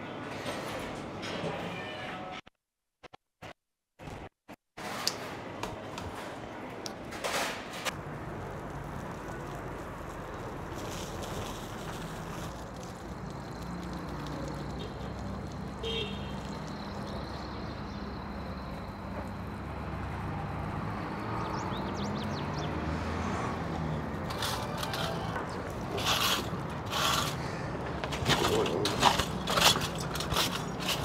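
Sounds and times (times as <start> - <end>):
low traffic rumble: 5.4 - 31.0.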